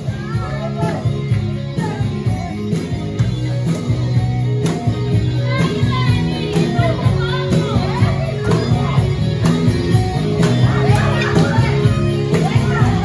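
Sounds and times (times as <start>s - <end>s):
upbeat dance music: 0.0s - 13.0s.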